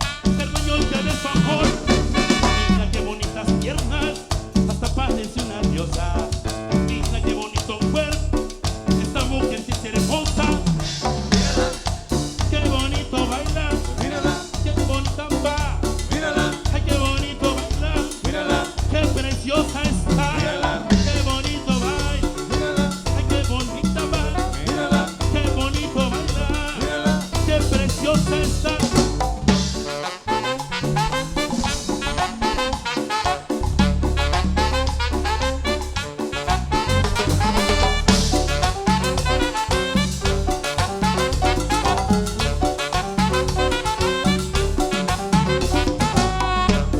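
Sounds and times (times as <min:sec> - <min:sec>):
live band playing latin dance music: 0:00.0 - 0:46.9.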